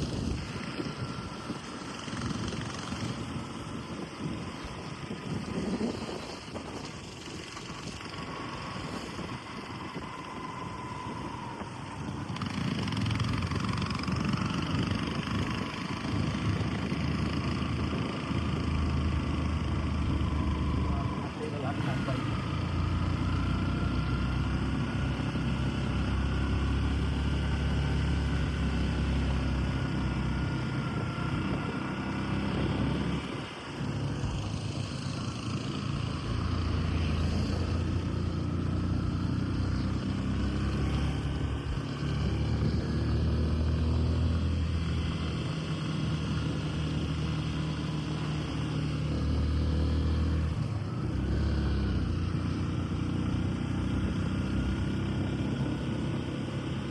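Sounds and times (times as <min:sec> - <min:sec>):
road noise: 0:00.0 - 0:56.9
vehicle engine hum: 0:00.0 - 0:56.9.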